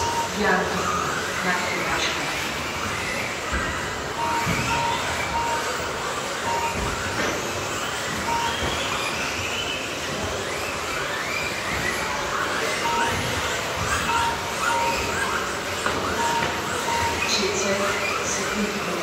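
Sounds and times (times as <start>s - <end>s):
short electronic beeps: 0.0s - 2.2s, 4.1s - 10.2s, 11.4s - 19.0s
toy car motors whining: 0.0s - 19.0s
tyre and chassis noise: 0.0s - 19.0s.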